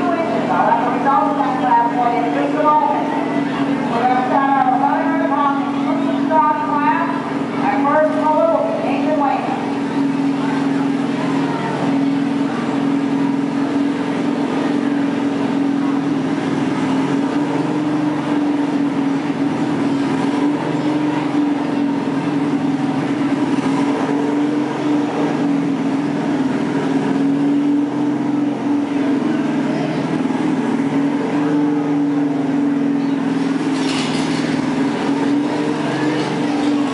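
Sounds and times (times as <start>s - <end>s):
lawn mower engine running: 0.0s - 36.9s.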